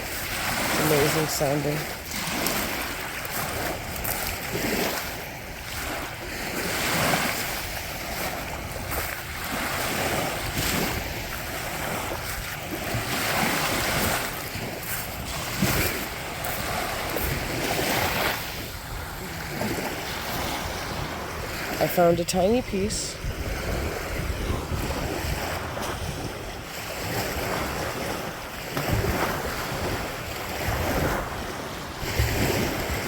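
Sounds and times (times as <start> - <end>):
wind buffeting microphone: 0.0 - 21.8, 22.4 - 33.0
waves washing on rocky beach: 0.0 - 33.0.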